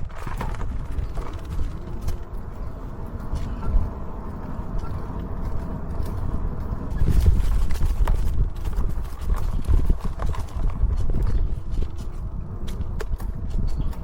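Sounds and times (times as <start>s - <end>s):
bike rattling and creaking: 0.0s - 14.0s
wind and road rumble: 0.0s - 14.0s.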